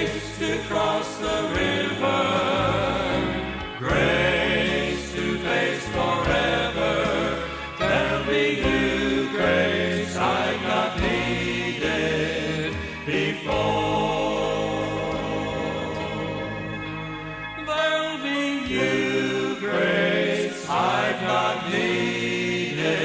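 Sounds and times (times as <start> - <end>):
instrumental accompaniment: 0.0 - 23.0
men singing gospel in harmony: 0.0 - 23.0.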